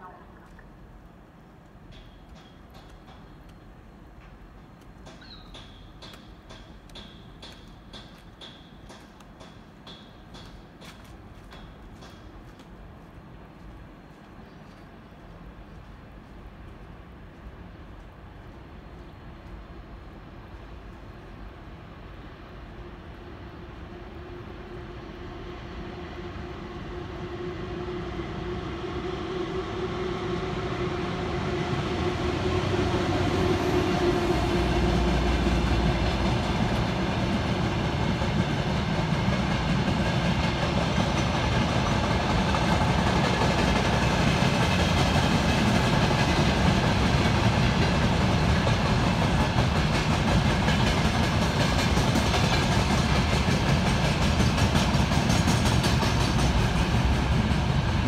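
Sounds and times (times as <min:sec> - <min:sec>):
electric locomotive whine: 0:00.0 - 0:58.0.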